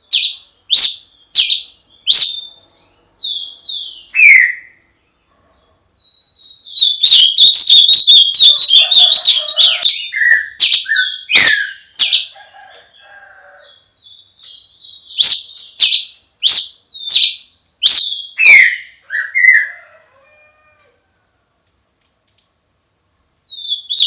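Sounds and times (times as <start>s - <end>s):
songbird singing: 0.0s - 20.8s, 23.4s - 24.0s.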